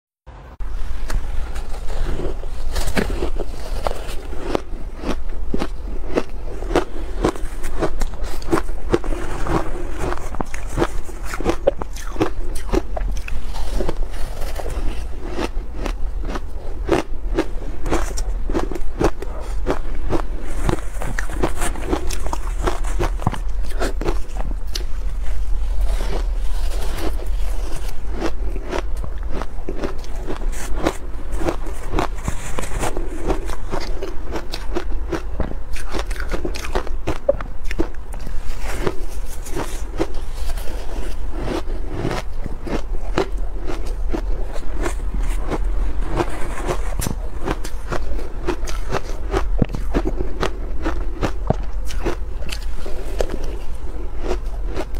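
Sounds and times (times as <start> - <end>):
crisp crunching of ice: 1.0 - 54.9.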